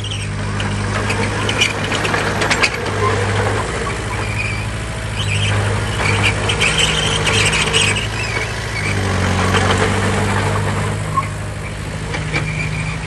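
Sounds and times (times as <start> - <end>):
bulldozer diesel engine running: 0.0 - 13.0
high squeal: 0.0 - 13.0.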